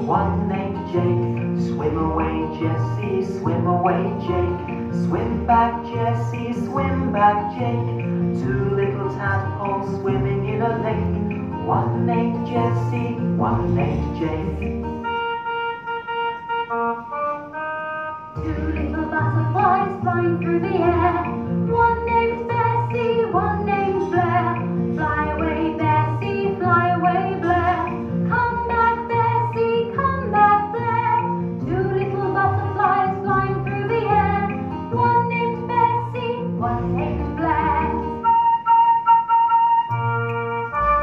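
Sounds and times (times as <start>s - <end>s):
woman singing children's song: 0.0s - 14.7s, 18.4s - 38.2s
instrumental backing: 0.0s - 41.0s.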